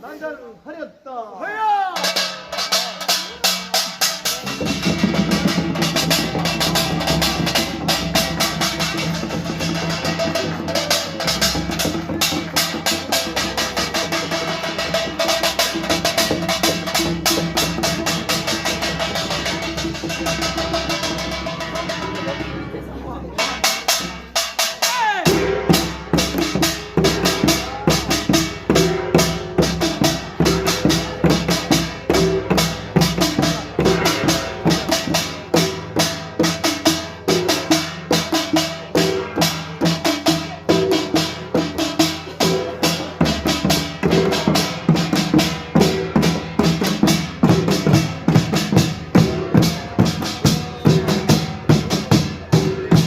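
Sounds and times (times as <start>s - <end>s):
gongs and drums ensemble: 1.6s - 53.0s.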